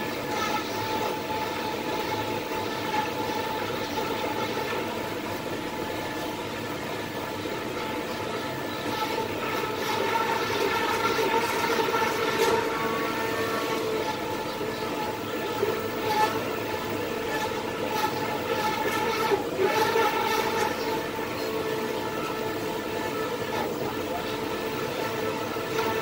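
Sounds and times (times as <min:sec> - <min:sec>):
boiling water bath rushing: 0:00.0 - 0:26.0
pots buzzing against each other: 0:00.0 - 0:26.0.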